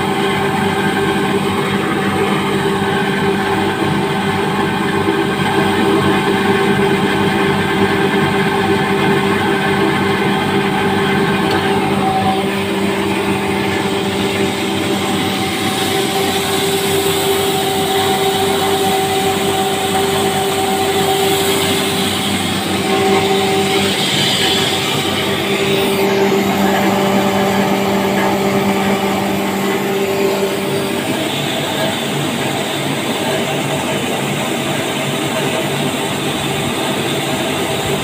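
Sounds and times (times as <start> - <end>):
electric motor hum: 0.0 - 33.5
blower rushing noise: 0.0 - 38.0.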